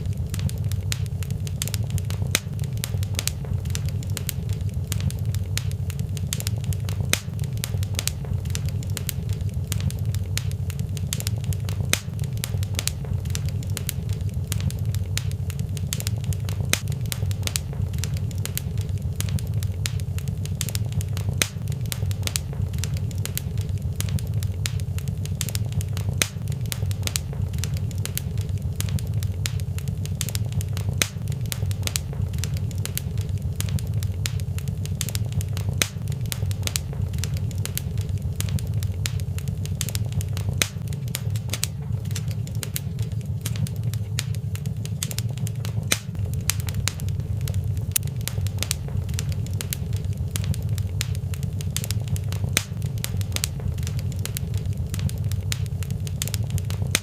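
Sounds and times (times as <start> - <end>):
fire low rumble: 0.0 - 57.0
wood fire crackling: 0.0 - 57.0.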